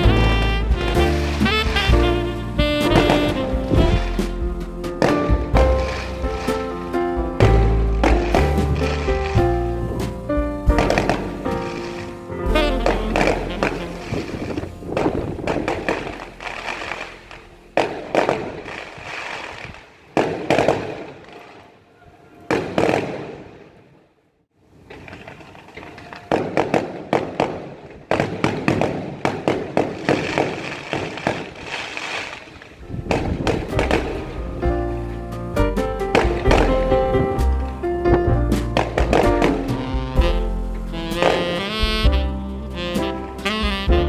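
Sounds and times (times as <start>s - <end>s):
fireworks bangs and crackles: 0.0s - 21.7s, 24.9s - 44.0s.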